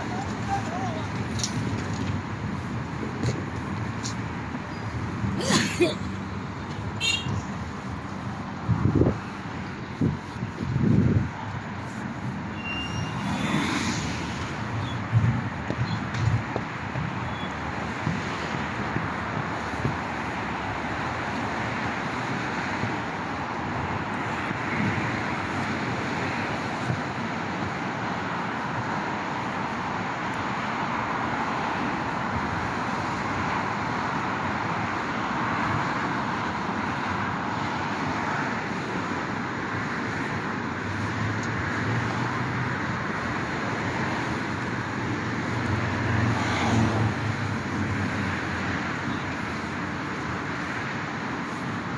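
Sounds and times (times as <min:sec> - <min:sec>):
road traffic noise: 0:00.0 - 0:51.9.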